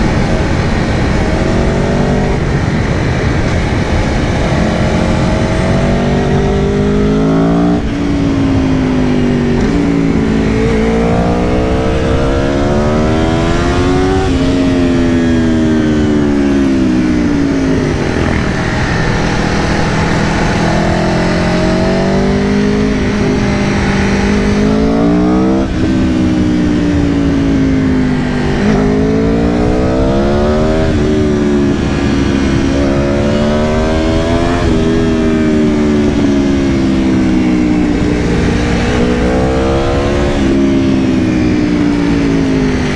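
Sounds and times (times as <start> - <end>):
motorcycle engine revving through upshifts: 0.0 - 42.9.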